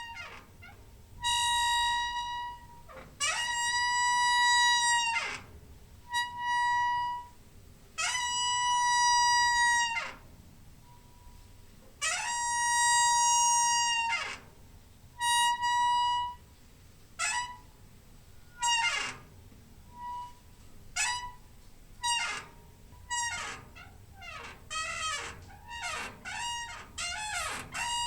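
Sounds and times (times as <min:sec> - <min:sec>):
door hinge squeaking: 0:00.0 - 0:07.4, 0:08.0 - 0:10.3, 0:12.0 - 0:14.6, 0:15.2 - 0:16.4, 0:17.2 - 0:17.7, 0:18.4 - 0:28.0.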